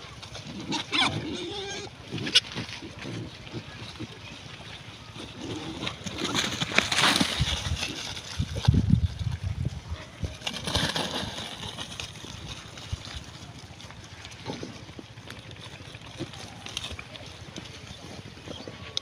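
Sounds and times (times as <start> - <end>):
pigs chewing and snuffling: 0.0 - 19.0
stalks rustling and crunching: 0.2 - 19.0.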